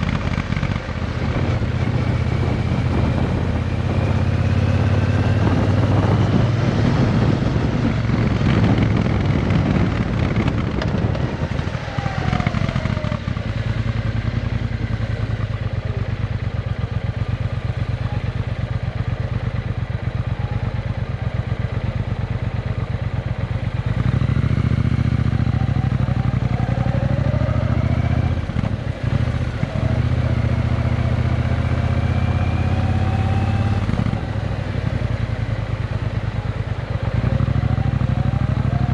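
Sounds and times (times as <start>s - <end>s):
motorcycle engine deep pulsing: 0.0s - 38.9s.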